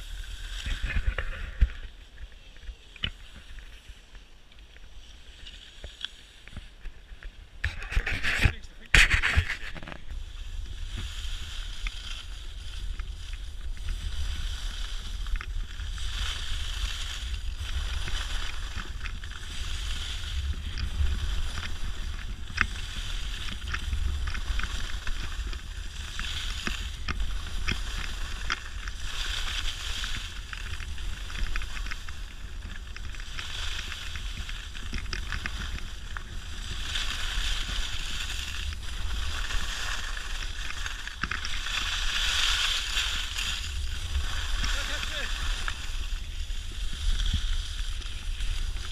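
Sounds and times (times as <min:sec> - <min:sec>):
skis scraping over snow: 0:00.0 - 0:48.9.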